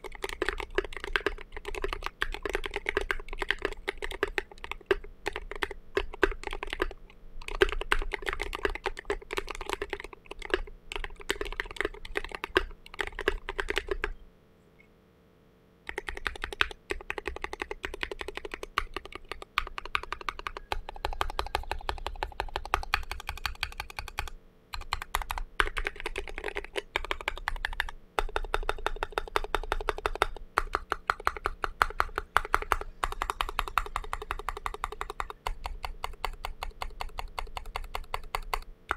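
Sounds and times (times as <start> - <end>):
fast mechanical keyboard typing: 0.0 - 14.2, 15.9 - 38.7.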